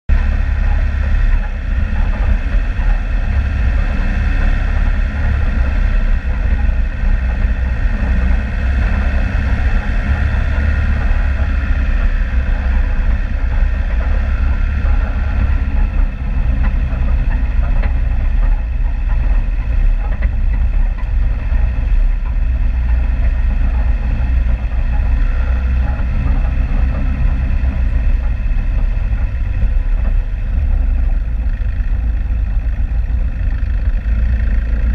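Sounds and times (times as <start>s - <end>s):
vehicle engine low rumble: 0.0s - 34.9s.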